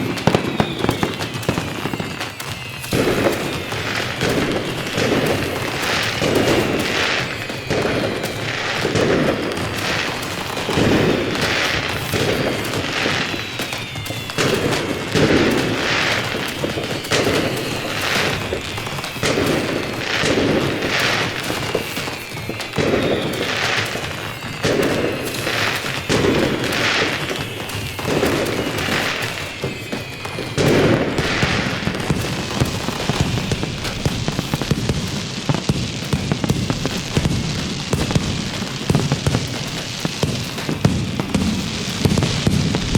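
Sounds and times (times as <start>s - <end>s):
fireworks bangs and booms: 0.0s - 42.9s
fireworks whistles: 0.0s - 42.9s.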